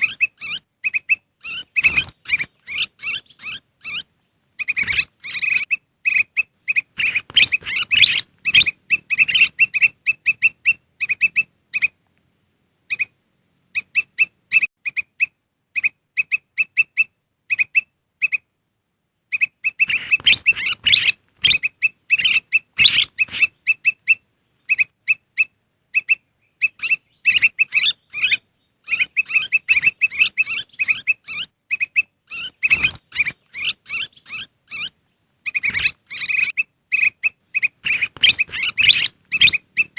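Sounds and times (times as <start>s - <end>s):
bulbul chirping: 0.0s - 12.0s, 19.3s - 39.9s.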